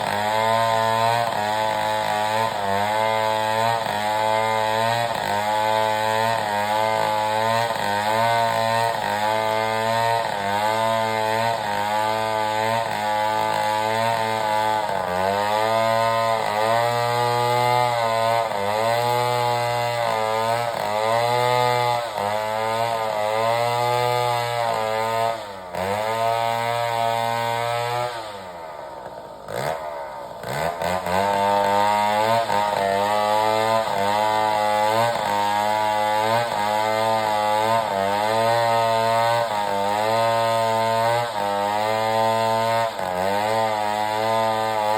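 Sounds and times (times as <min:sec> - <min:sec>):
engine-driven saw running: 0:00.0 - 0:44.9.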